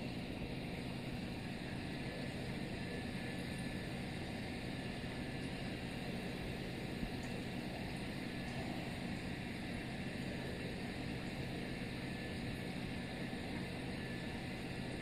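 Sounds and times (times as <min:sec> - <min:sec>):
filter motor hum: 0:00.0 - 0:15.0.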